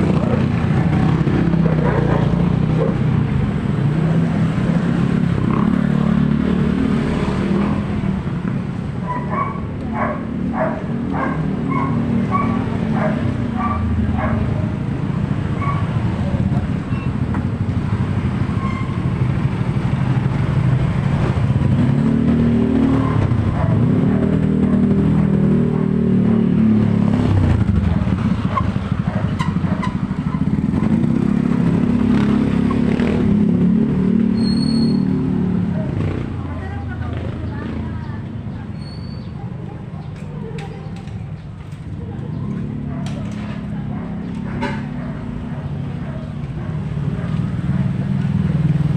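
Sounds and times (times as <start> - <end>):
motorcycles passing by: 0.0 - 48.9.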